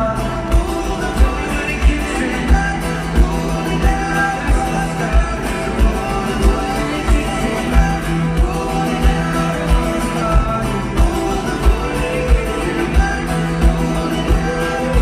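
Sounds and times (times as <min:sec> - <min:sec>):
live music with guitar: 0:00.0 - 0:15.0.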